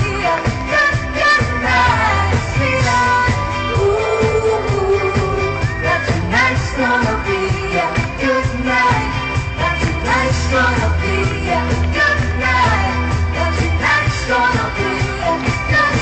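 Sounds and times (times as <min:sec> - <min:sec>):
band playing with steady beat: 0:00.0 - 0:16.0
person singing: 0:00.0 - 0:16.0.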